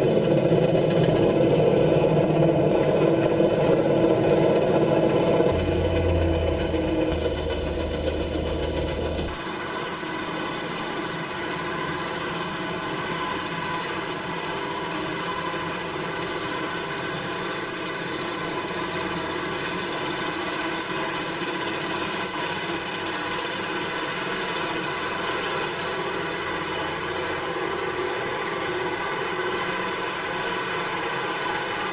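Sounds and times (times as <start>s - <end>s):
machine engine running: 0.0s - 31.9s.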